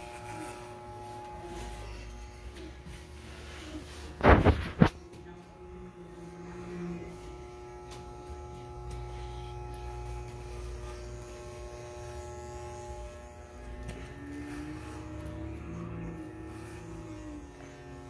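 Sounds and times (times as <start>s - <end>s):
electric hair clippers humming: 0.0s - 18.0s.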